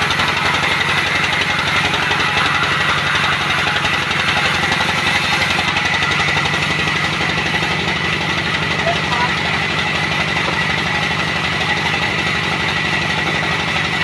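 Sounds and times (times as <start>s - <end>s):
sawmill machinery droning: 0.0s - 14.0s.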